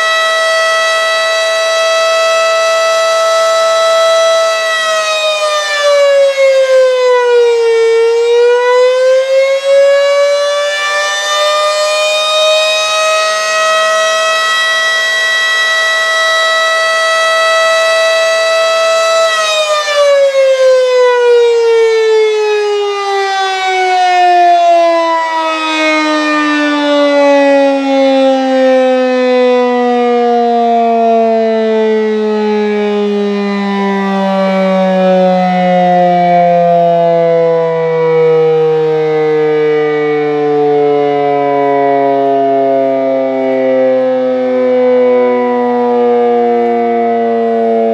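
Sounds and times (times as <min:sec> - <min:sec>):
outdoor warning siren: 0:00.0 - 0:47.9.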